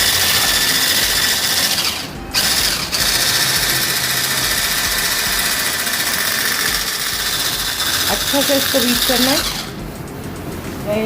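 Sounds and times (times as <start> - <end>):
electric mixer whipping cream: 0.0 - 9.8.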